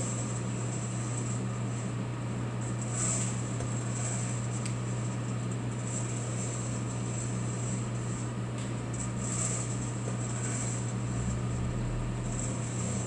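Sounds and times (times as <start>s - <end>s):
coffee roaster blower hum: 0.0s - 13.0s.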